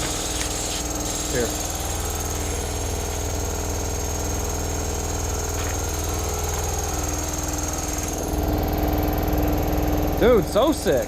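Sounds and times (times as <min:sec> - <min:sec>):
piston air compressor running: 0:00.0 - 0:11.0.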